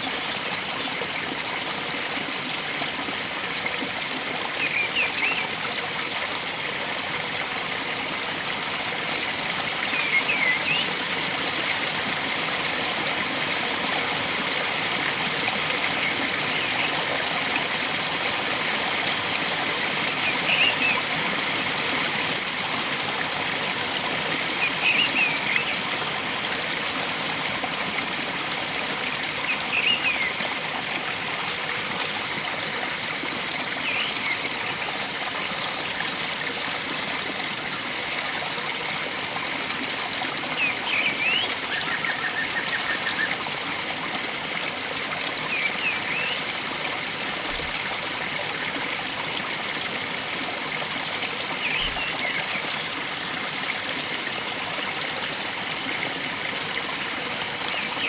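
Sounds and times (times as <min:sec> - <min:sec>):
water flowing in a stream: 0:00.0 - 0:58.0.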